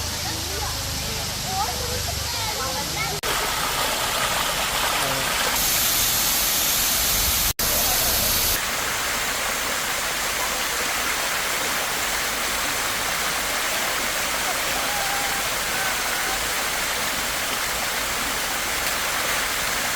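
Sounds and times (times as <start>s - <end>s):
waterfall rushing over rock: 0.0s - 19.9s.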